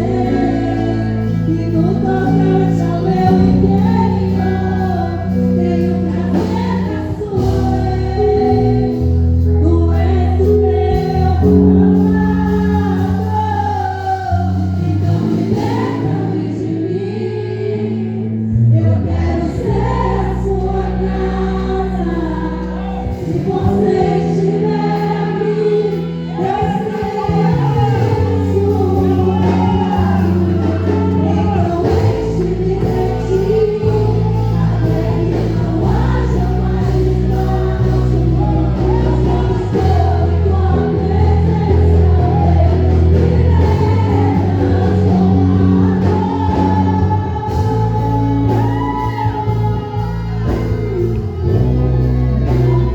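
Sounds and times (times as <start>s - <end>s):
voices singing together: 0.0s - 52.9s.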